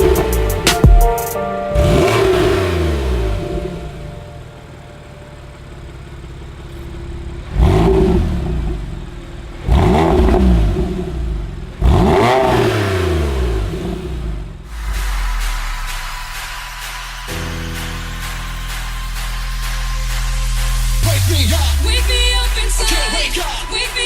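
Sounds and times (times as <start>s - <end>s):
car engine throttle blips: 0.0s - 24.0s.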